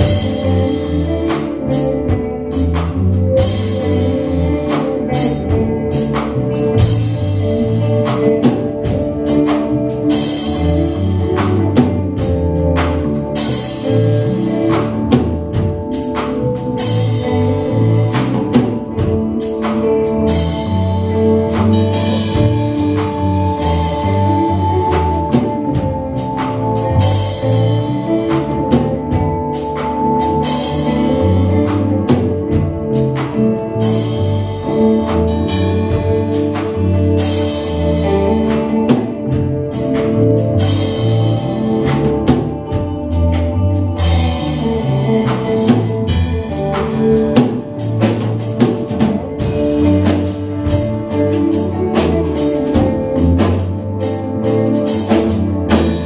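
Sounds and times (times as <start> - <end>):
bass guitar: 0.0 - 56.0
drum kit beat: 0.0 - 56.0
electric guitar: 0.0 - 56.0
keyboard: 0.0 - 56.0.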